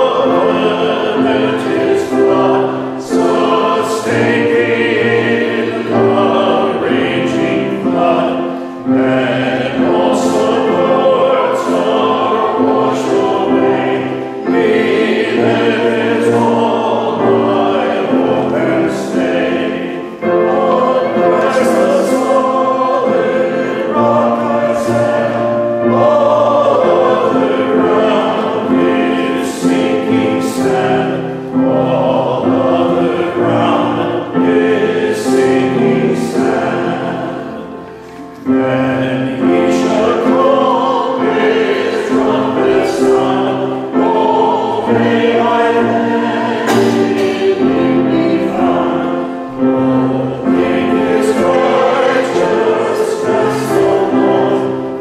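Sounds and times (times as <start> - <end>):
congregation singing a hymn: 0.0 - 55.0.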